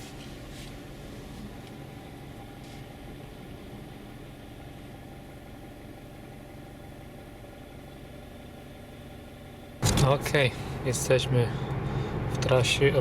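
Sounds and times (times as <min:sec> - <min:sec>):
car engine humming: 0:00.3 - 0:13.0.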